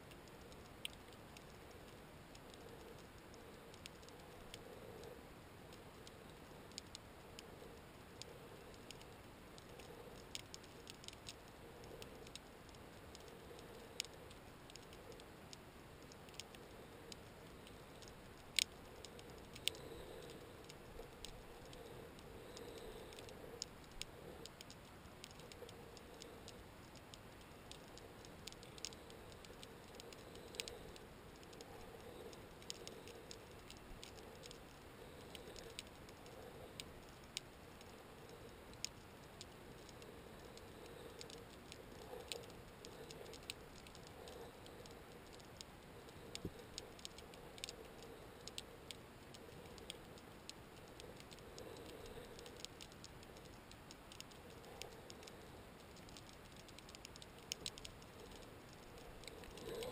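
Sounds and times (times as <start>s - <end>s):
faint low hum: 0.0s - 59.9s
underwater clicks and crackles: 0.0s - 59.9s.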